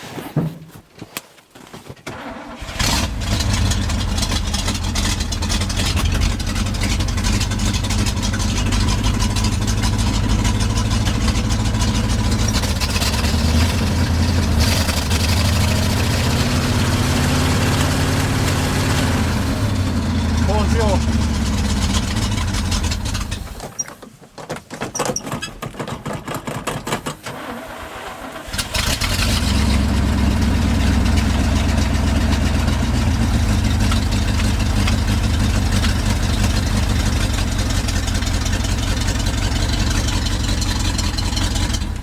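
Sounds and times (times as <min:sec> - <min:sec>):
truck engine starting and idling: 0:02.0 - 0:24.2, 0:25.0 - 0:42.0.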